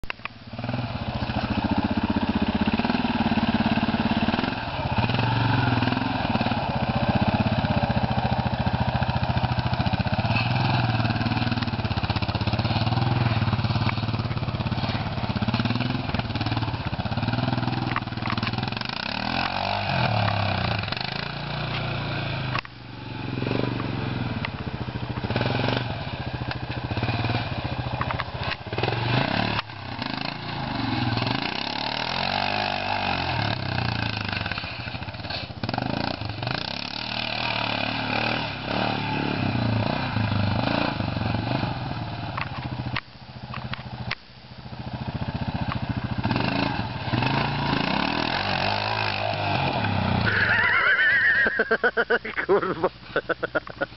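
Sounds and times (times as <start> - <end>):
quad bike engine revving: 0.0 - 53.9.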